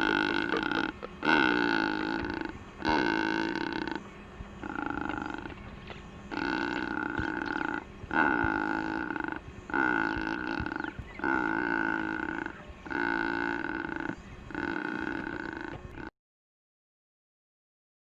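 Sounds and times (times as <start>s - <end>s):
bird long pitched calls: 0.0s - 16.1s.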